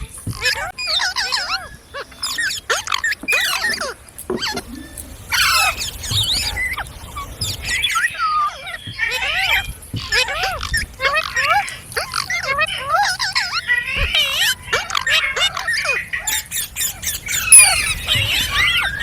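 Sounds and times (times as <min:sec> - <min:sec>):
parrots squawking: 0:00.3 - 0:19.0.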